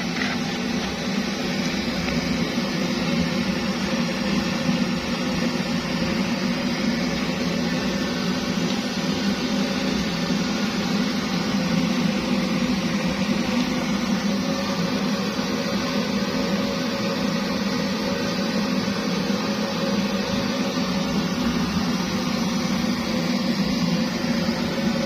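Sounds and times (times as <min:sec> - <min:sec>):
pressure stove roaring: 0:00.0 - 0:25.0.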